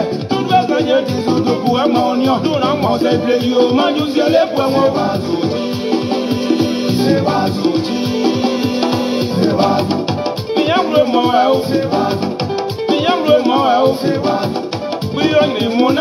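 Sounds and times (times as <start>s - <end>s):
person singing: 0.0s - 16.0s
upbeat dance song: 0.0s - 16.0s.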